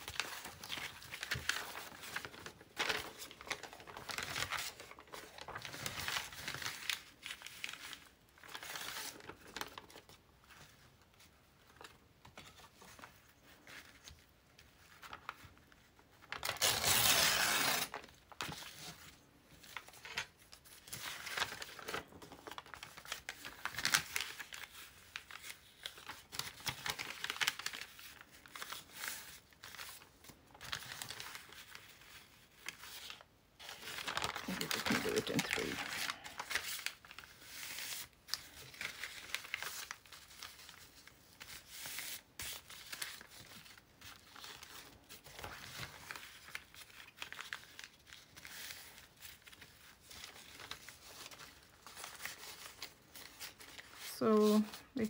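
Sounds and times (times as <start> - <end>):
stiff paper crinkling: 0.0 - 55.0.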